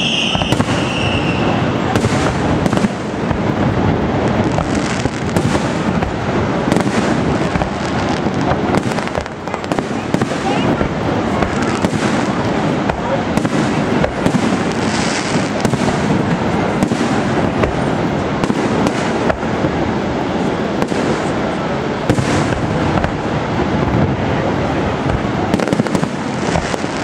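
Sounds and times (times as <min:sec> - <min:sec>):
fireworks bangs and crackling: 0:00.0 - 0:27.0.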